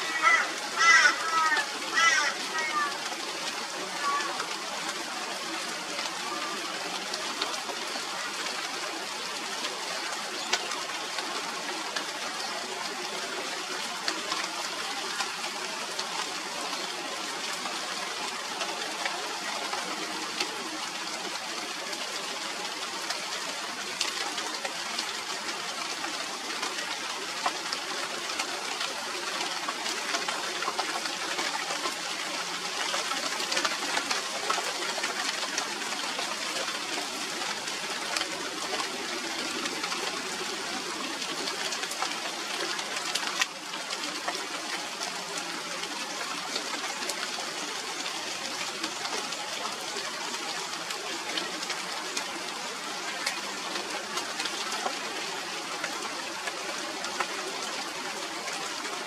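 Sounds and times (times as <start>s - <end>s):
raindrops ticking on leaves: 0.0s - 59.0s
steady rain falling: 0.0s - 59.0s.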